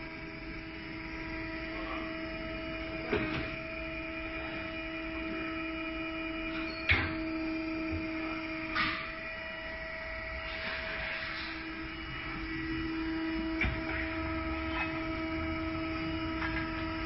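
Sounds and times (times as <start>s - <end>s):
tire changer motor hum: 0.0s - 17.0s.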